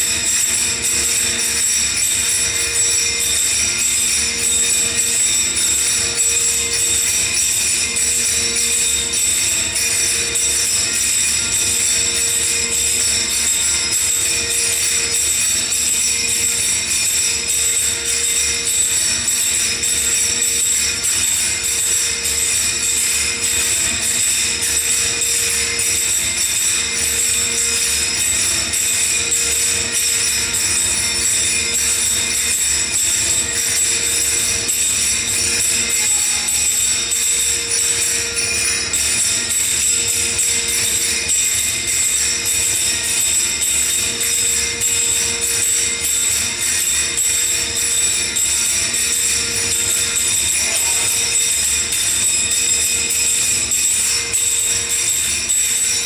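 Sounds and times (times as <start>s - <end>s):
music with jingling percussion: 0.0s - 56.0s.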